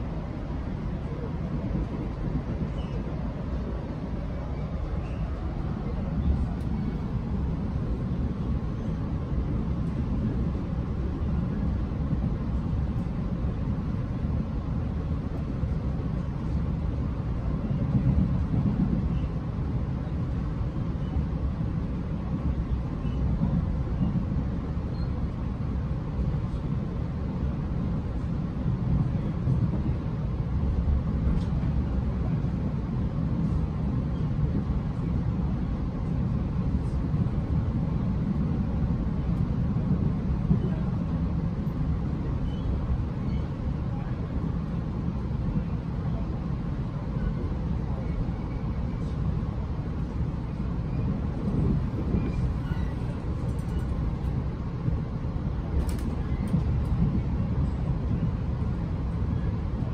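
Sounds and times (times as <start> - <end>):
train rumbling in motion: 0.0 - 59.9.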